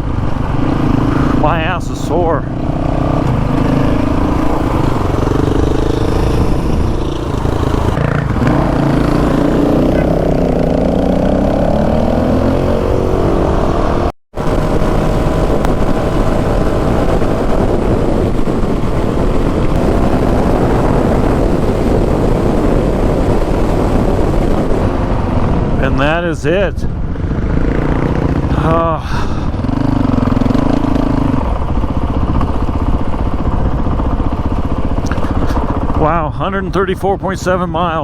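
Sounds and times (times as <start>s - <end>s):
motorcycle engine accelerating: 0.0s - 37.9s
road noise: 0.0s - 38.0s.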